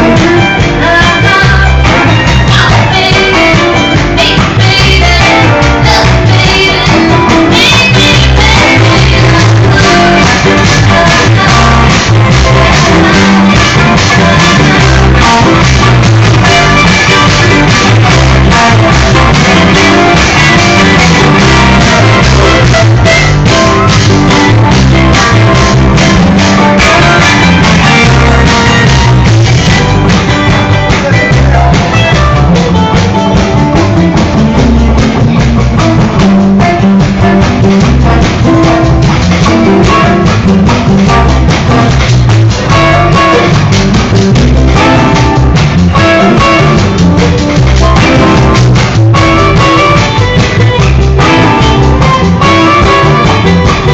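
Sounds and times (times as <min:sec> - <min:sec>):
distorted live band: 0:00.0 - 0:53.9.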